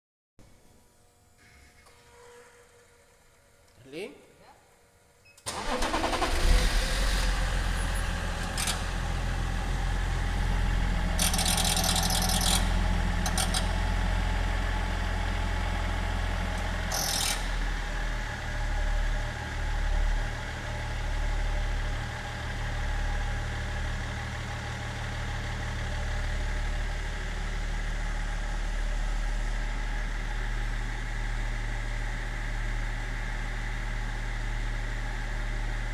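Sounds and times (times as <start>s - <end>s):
diesel car engine idling: 5.5s - 35.9s.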